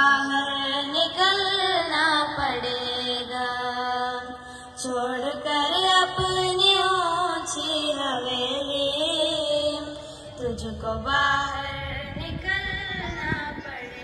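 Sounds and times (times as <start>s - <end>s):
person singing a devotional song: 0.0s - 14.0s.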